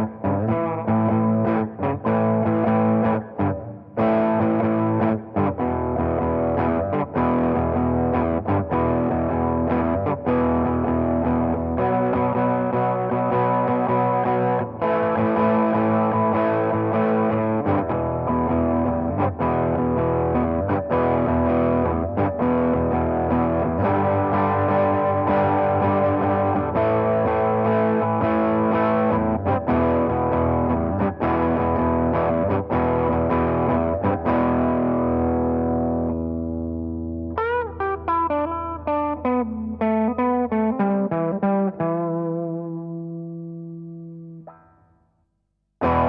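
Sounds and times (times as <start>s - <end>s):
overdriven electric guitar chords: 0.0s - 45.0s, 45.8s - 46.0s.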